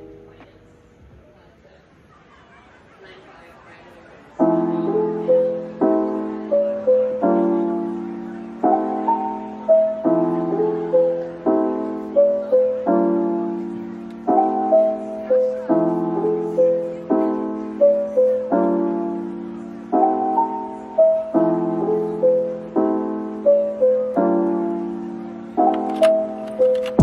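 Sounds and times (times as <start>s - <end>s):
soft piano music: 0.0s - 0.9s, 4.3s - 27.0s.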